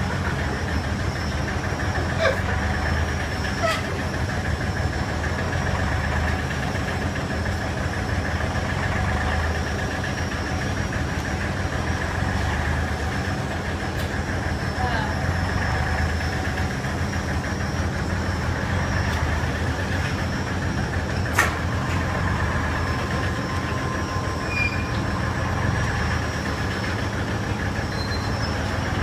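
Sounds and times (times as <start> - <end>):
conveyor belt humming: 0.0 - 29.0.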